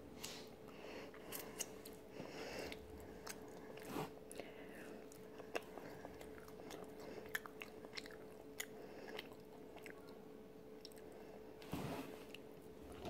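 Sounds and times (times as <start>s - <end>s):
faint steady hum: 0.0s - 13.0s
soft chewing: 0.1s - 13.0s.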